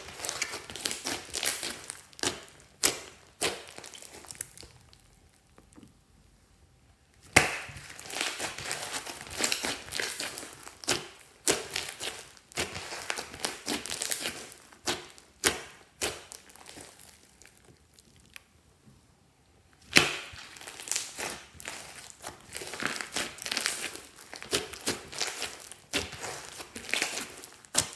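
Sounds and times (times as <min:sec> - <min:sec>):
slime squelching and crackling: 0:00.0 - 0:06.1, 0:07.2 - 0:18.6, 0:19.8 - 0:27.9.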